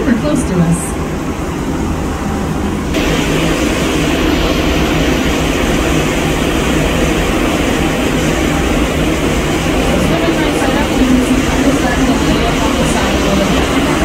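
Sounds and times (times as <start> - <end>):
boat engine running: 0.0 - 14.0
water rushing: 2.3 - 14.0.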